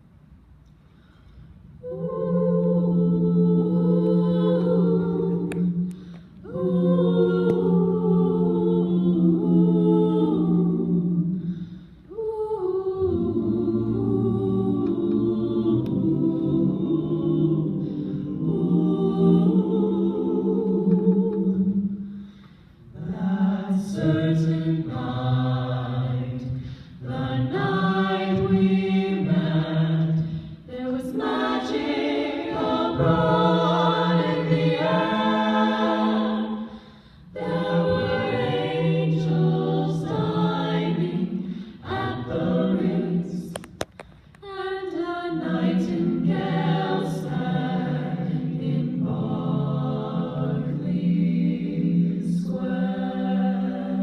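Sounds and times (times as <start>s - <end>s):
choir singing a cappella: 1.1s - 54.0s.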